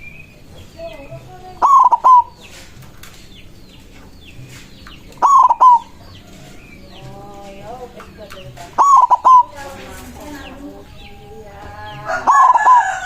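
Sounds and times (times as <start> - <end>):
small birds chirping: 0.0 - 13.0
dove cooing: 0.4 - 3.0, 4.4 - 13.0.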